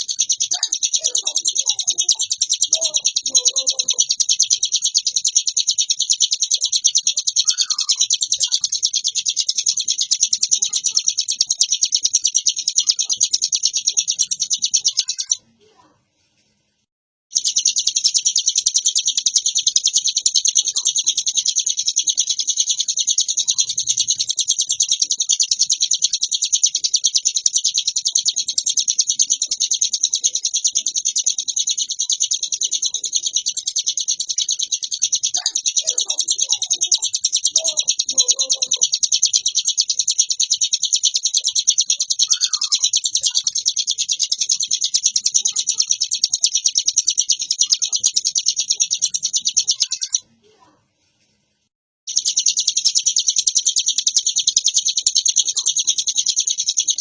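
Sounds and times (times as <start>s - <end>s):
bird high-pitched trilling song: 0.0s - 15.5s, 17.3s - 50.7s, 52.1s - 57.0s.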